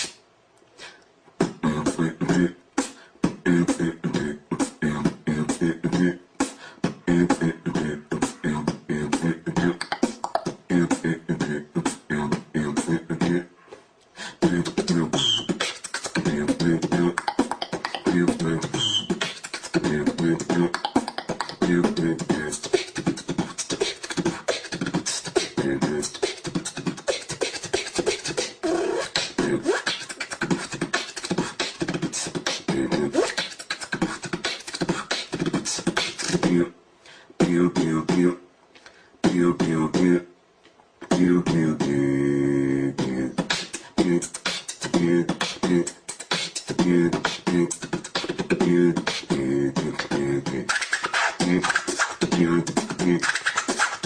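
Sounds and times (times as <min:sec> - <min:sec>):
person beatboxing: 0:00.0 - 0:00.2, 0:00.8 - 0:13.5, 0:14.2 - 0:36.7, 0:37.4 - 0:38.4, 0:39.2 - 0:40.2, 0:41.0 - 0:54.0.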